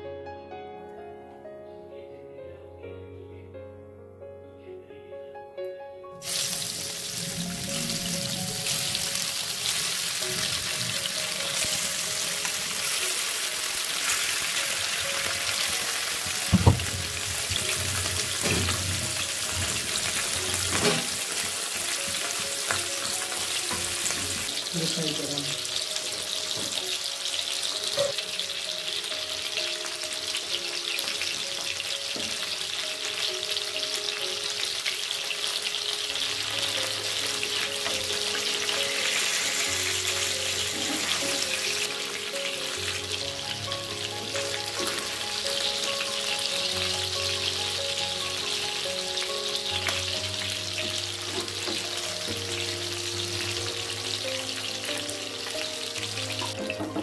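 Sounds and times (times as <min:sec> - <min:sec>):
fish sizzling in hot oil: 0:06.2 - 0:57.0.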